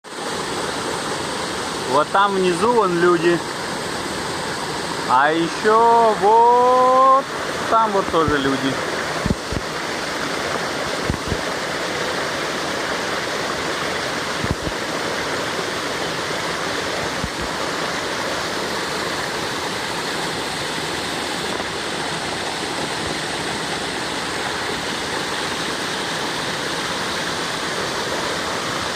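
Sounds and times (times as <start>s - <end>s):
waterfall crashing: 0.1s - 28.9s.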